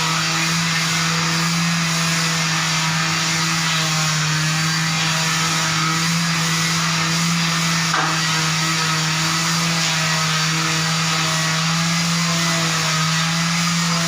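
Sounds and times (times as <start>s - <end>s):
floor sanding machine running: 0.0s - 14.0s.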